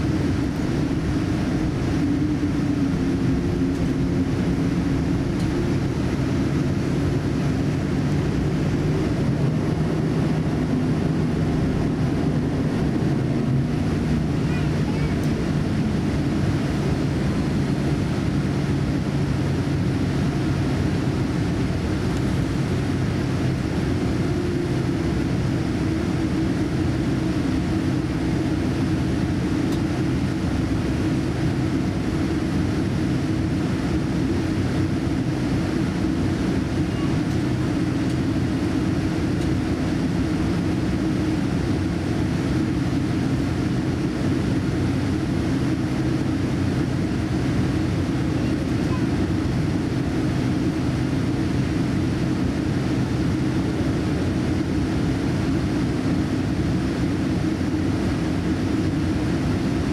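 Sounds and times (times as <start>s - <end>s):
airliner cabin hum and rumble: 0.0s - 59.9s.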